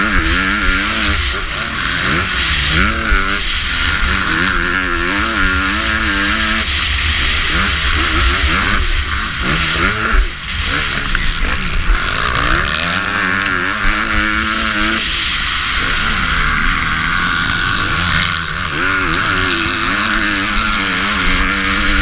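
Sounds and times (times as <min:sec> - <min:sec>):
motocross bike engine revving: 0:00.0 - 0:22.0.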